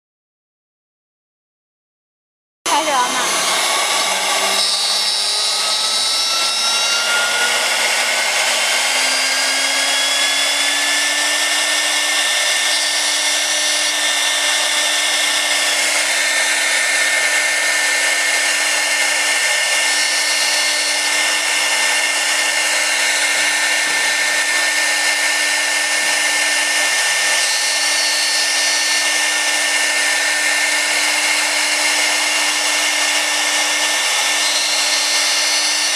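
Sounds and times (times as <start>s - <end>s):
router spindle high whine: 2.7s - 35.9s.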